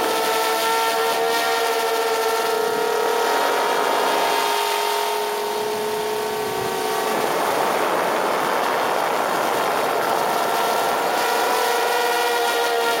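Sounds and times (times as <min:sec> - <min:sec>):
rough rushing noise: 0:00.0 - 0:13.0.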